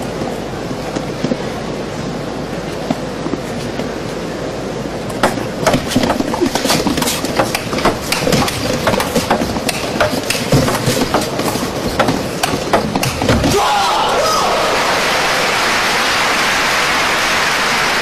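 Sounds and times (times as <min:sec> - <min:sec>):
hall background noise: 0:00.0 - 0:18.0.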